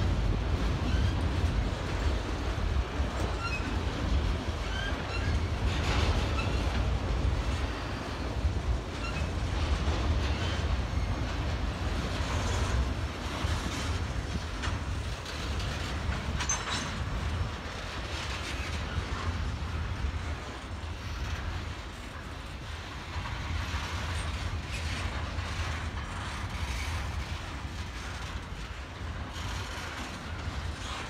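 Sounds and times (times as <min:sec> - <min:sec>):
freight train rumbling past: 0:00.0 - 0:31.0.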